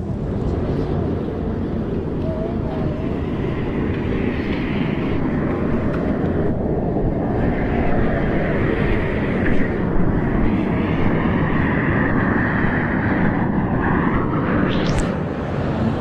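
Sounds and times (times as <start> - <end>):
faint whine: 0.0 - 16.0.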